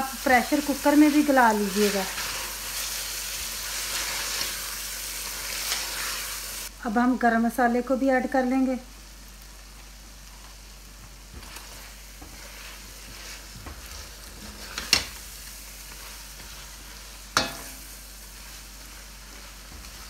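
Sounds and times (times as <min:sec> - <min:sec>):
meat sizzling in oil: 0:00.0 - 0:20.0.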